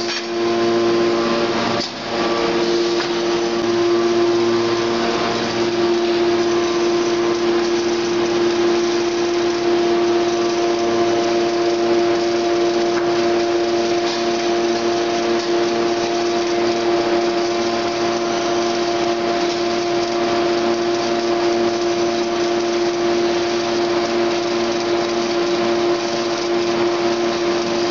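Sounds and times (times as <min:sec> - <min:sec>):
factory machinery humming and whining: 0:00.0 - 0:27.9.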